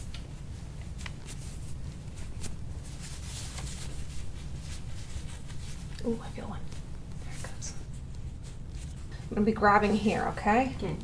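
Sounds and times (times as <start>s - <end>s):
hands rubbing a back: 0.0s - 10.6s.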